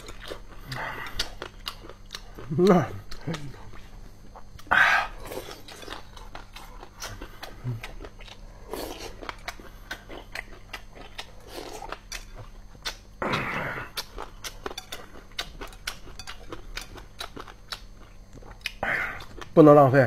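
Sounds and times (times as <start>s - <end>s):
chewing with crisp crunches: 0.0s - 20.0s.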